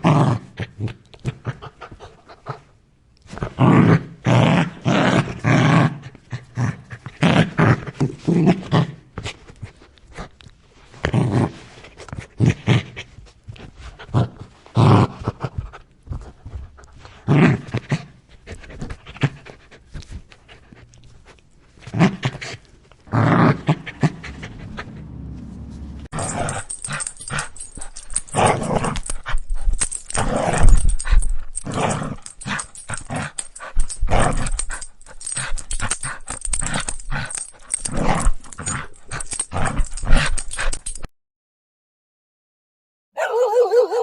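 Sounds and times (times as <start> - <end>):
dog growling and panting: 0.0 - 41.1.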